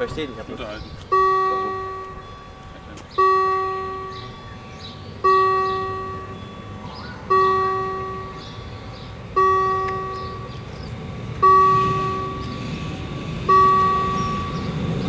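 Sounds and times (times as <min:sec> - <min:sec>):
crossing warning bell clanging: 0:00.0 - 0:15.0.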